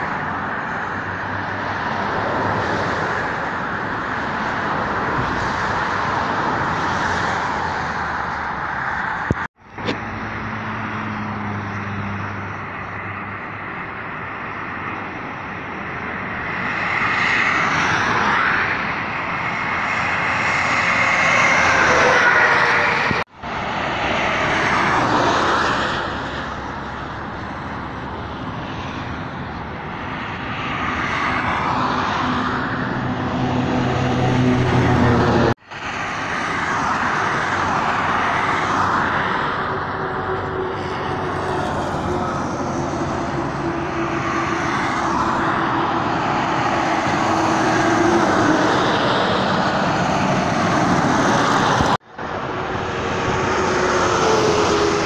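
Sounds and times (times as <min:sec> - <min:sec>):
highway traffic passing: 0:00.0 - 0:55.0.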